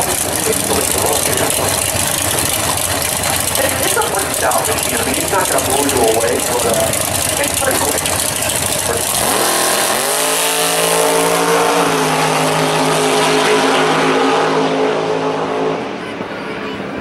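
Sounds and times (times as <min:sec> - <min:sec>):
drag car engine at full throttle: 0:00.0 - 0:16.3.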